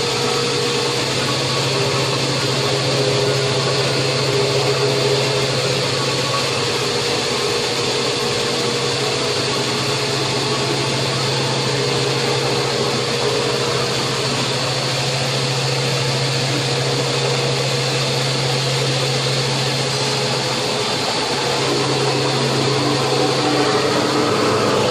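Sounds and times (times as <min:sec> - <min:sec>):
metal lathe humming: 0:00.0 - 0:24.9.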